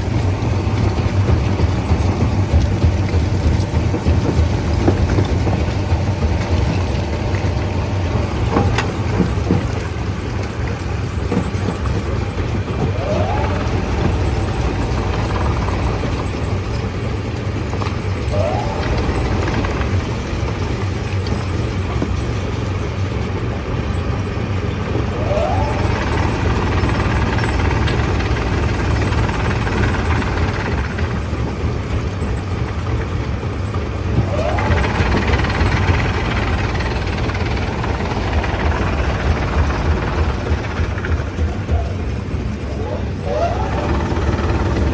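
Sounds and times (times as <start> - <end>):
stone-crushing machinery humming: 0.0 - 44.9.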